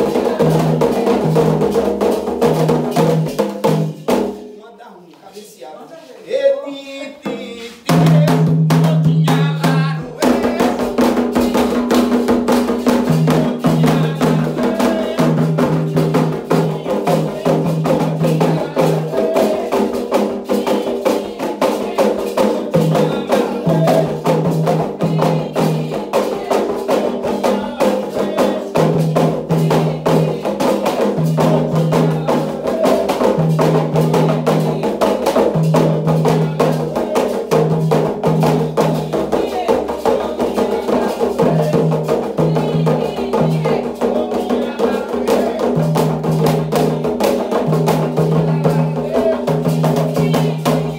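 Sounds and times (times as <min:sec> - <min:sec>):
fast dense drumming: 0:00.0 - 0:04.4, 0:07.9 - 0:50.9.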